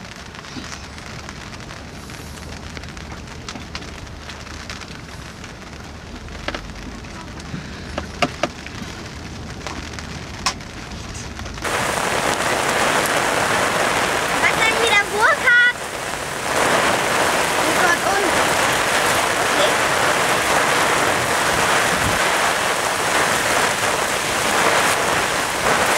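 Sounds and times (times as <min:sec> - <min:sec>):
heavy downpour hiss: 0:00.0 - 0:25.9
raindrops ticking on boat: 0:00.0 - 0:25.9
wind noise on microphone: 0:00.0 - 0:25.9.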